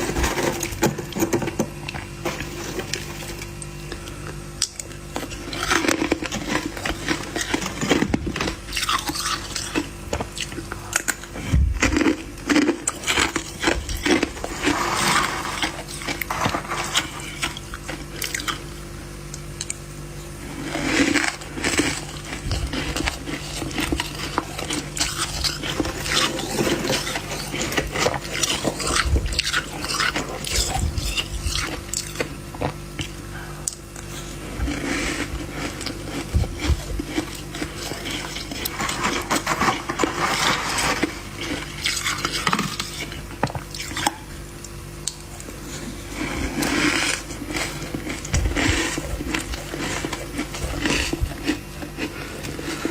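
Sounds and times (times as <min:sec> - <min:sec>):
frost being chewed crunching: 0:00.0 - 0:52.9
steady low hum: 0:00.0 - 0:52.9.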